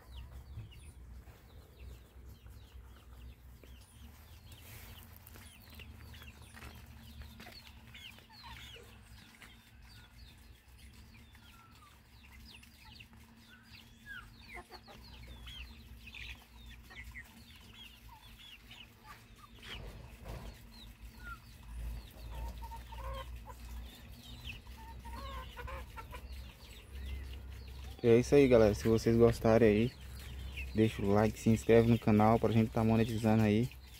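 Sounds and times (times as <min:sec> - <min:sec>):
chicks peeping and clucking: 0:00.0 - 0:33.9.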